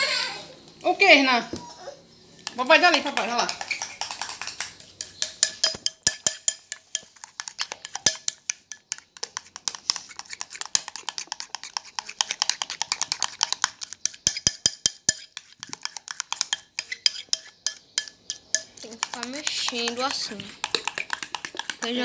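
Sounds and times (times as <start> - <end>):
whisk clicking against glass bowl: 2.4 - 22.0.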